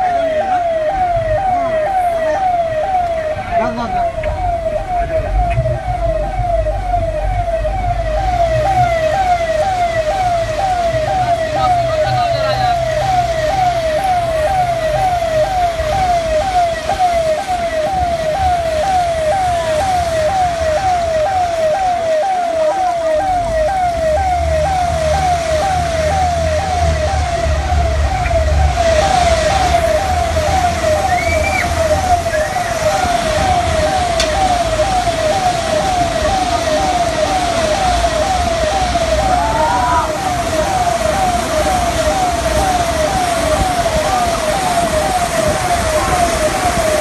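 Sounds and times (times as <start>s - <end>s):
siren sweeping tone: 0.0s - 47.0s.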